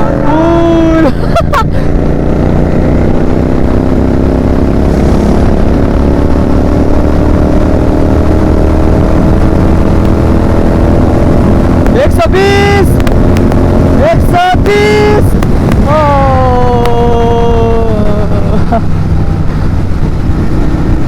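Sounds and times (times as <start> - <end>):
motorcycle engine under throttle: 0.0 - 21.0.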